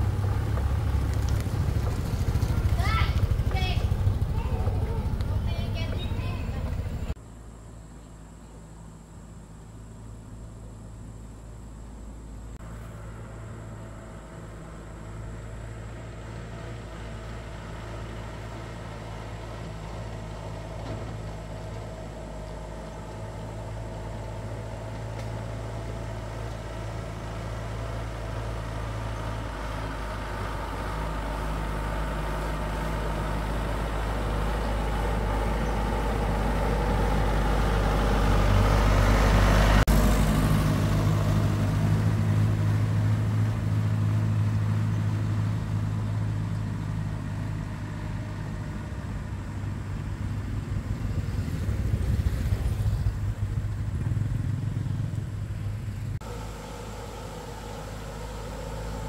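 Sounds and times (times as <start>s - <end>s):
truck engine running: 0.0s - 7.7s, 9.4s - 59.0s.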